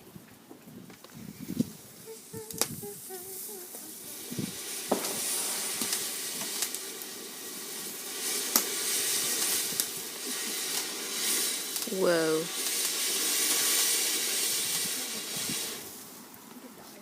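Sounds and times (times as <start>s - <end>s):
firework sizzling hiss: 0.6s - 17.0s
firework sharp cracks: 0.9s - 16.6s.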